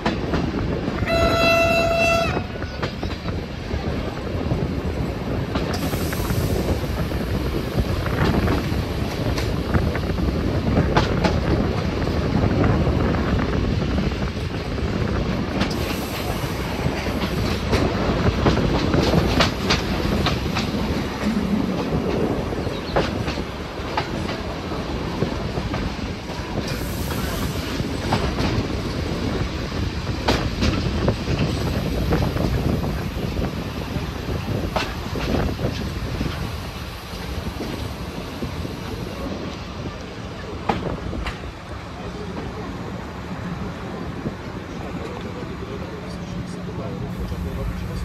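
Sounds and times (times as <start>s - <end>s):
train wheels clattering over rail joints: 0.0s - 42.6s
train low rumble: 0.0s - 48.0s.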